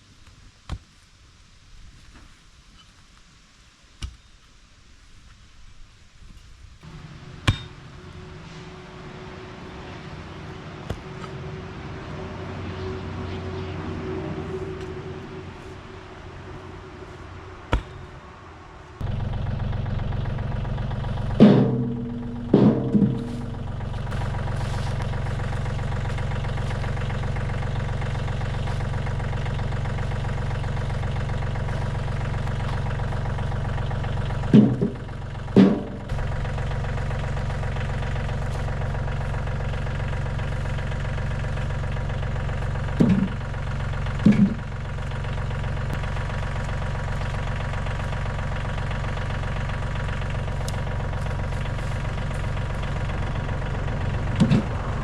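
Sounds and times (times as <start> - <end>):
diesel engine running: 6.8 - 55.0.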